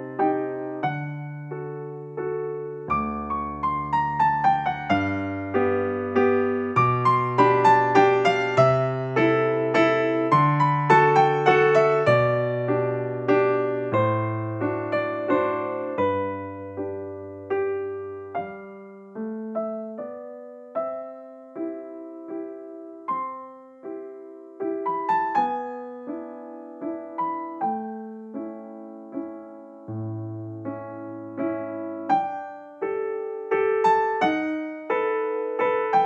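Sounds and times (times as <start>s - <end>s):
slow piano melody: 0.0s - 36.0s.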